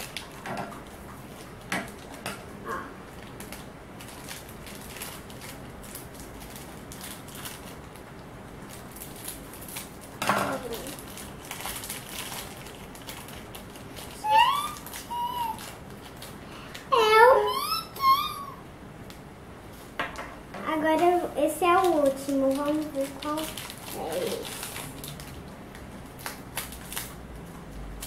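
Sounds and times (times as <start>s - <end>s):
foil wrapper crackling: 0.0s - 2.4s, 3.0s - 17.4s, 21.0s - 28.0s.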